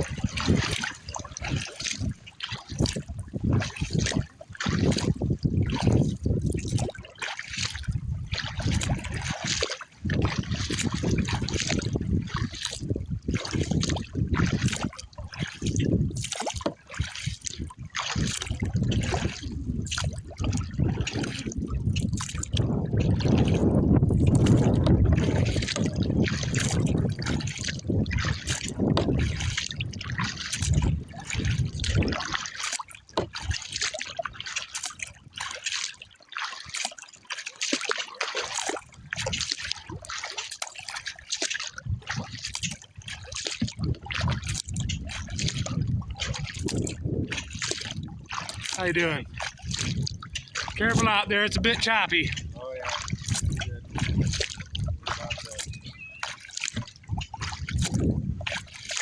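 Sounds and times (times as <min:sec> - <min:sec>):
wind buffeting microphone: 0:00.0 - 0:35.5, 0:38.8 - 0:40.1, 0:41.7 - 0:59.0
water splashing against a kayak: 0:00.0 - 0:59.0.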